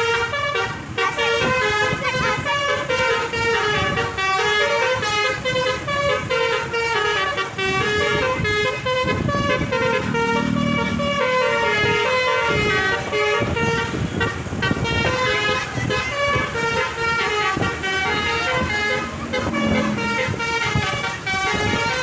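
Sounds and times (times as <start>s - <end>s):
bus horn playing a tune: 0.0s - 22.0s.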